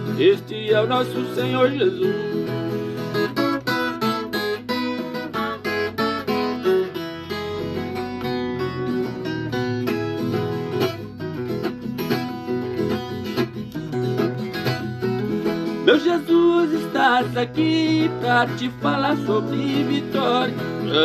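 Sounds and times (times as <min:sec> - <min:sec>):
folk guitar plucked and strummed: 0:00.0 - 0:21.0.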